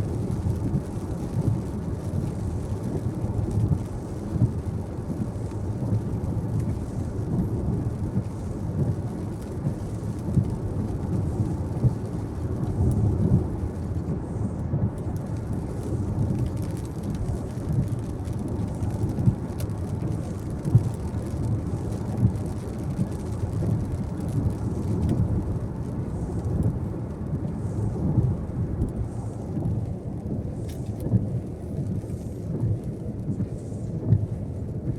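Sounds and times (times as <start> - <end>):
car interior road rumble: 0.0 - 34.9.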